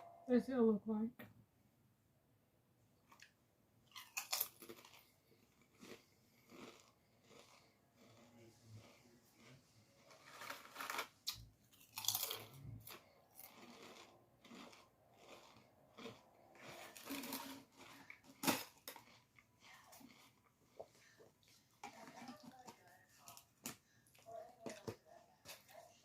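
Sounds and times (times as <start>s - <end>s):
chewing crunchy snack: 3.1s - 26.0s.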